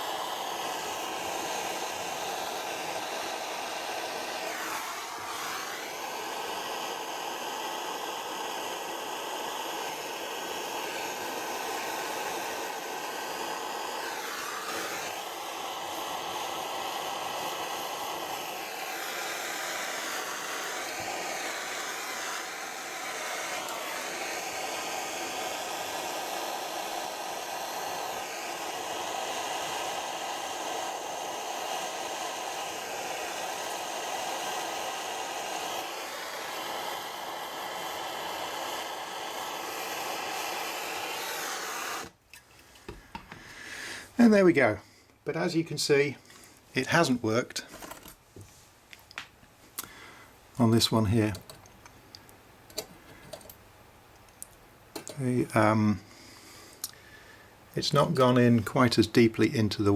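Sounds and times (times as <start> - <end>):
blow lamp flame hissing: 0.0 - 59.9.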